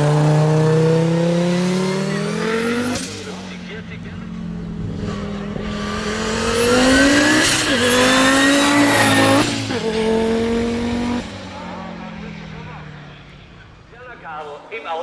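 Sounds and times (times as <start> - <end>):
race car engine at full throttle: 0.0 - 14.8.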